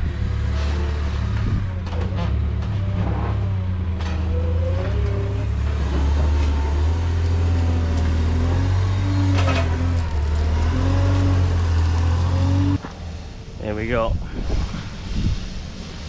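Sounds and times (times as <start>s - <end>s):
engine low drone: 0.0s - 16.0s.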